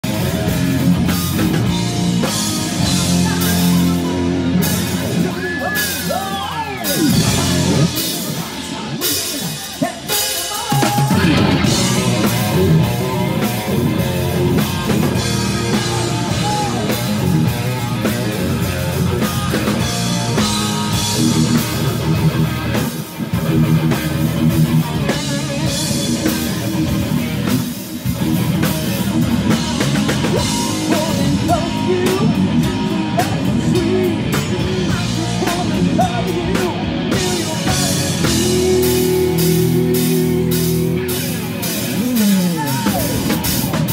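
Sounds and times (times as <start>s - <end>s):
drum kit: 0.0s - 43.9s
electric guitars: 0.0s - 43.9s.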